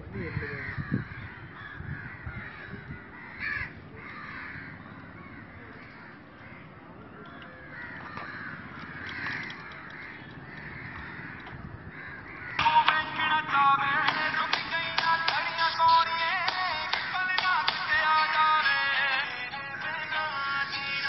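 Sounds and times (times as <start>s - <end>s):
crows cawing: 0.2s - 20.8s.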